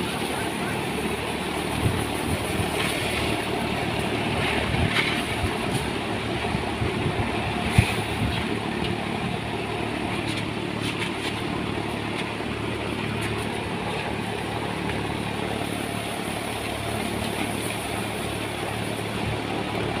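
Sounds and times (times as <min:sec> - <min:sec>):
thresher humming and whirring: 0:00.0 - 0:20.0.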